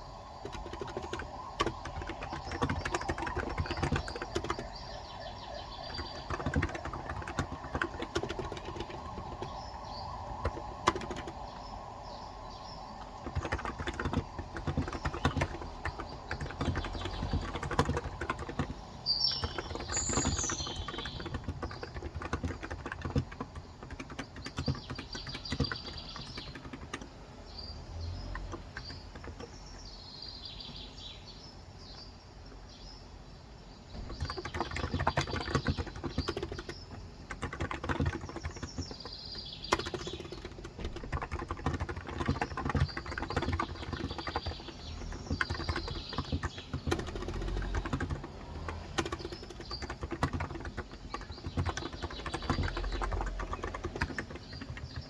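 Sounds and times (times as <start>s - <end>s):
birds chirping: 0.0s - 55.0s
keyboard key clicks: 0.4s - 11.7s, 13.0s - 27.2s, 34.0s - 55.0s.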